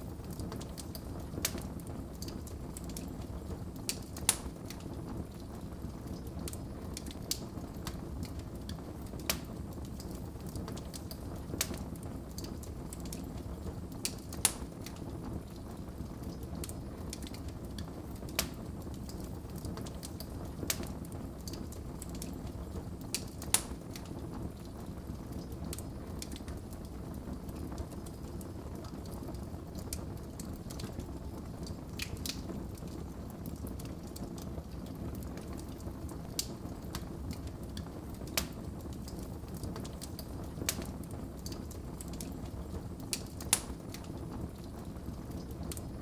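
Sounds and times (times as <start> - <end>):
low rumble of flames: 0.0 - 46.0
wood fire crackling and popping: 0.0 - 46.0.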